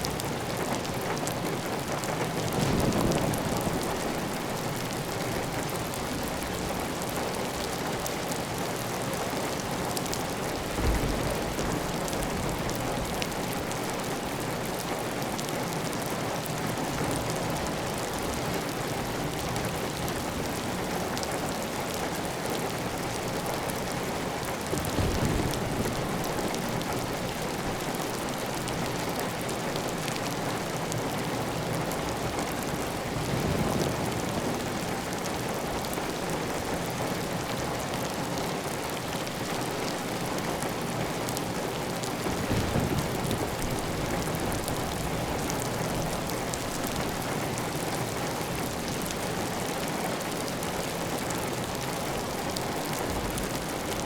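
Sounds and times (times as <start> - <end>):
heavy rain on tile roof: 0.0 - 54.0.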